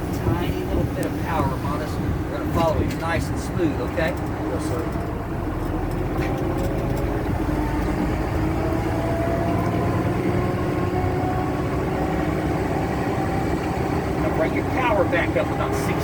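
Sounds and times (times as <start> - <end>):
truck diesel engine accelerating: 0.0 - 16.0.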